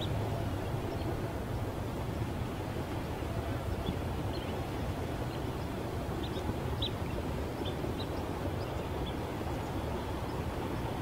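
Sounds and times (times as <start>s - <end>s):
small birds chirping: 0.0s - 1.8s, 2.9s - 11.0s
low outdoor rumble: 0.0s - 11.0s.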